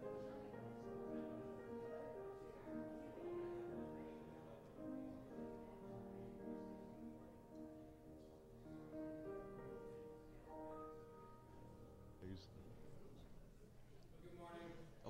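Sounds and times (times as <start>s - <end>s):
soft piano melody: 0.0s - 13.5s.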